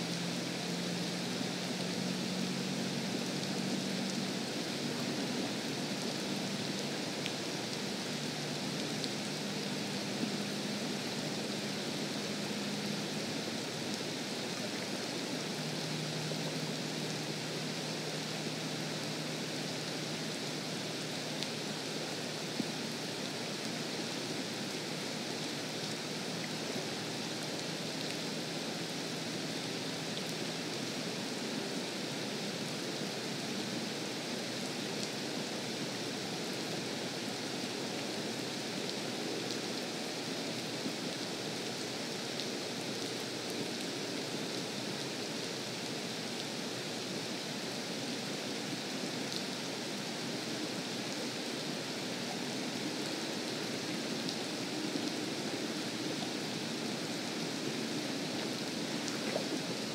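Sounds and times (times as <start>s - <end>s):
rain falling on lake and grass: 0.0s - 59.9s.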